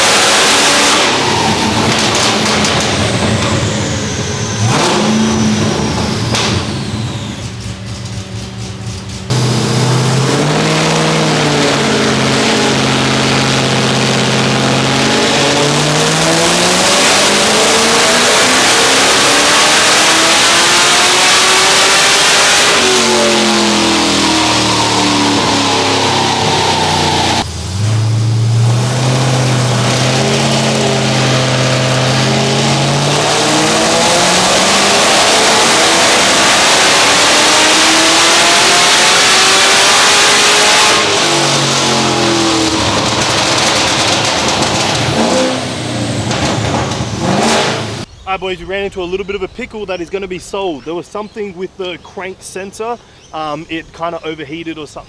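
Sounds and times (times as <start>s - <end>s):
car engine revving: 0.0s - 48.1s.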